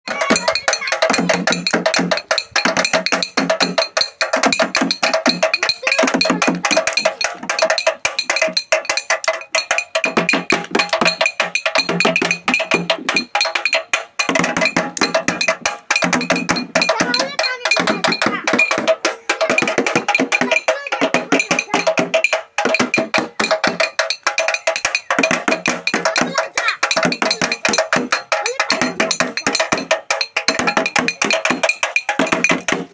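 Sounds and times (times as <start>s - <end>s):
percussion music with bell tones: 0.1s - 32.9s.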